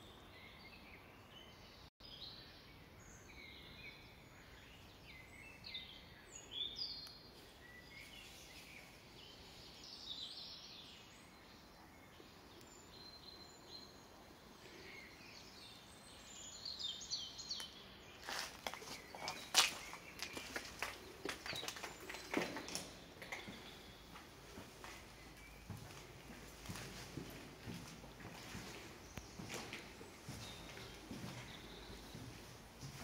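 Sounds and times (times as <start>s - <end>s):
wild birds chirping: 0.0s - 33.0s.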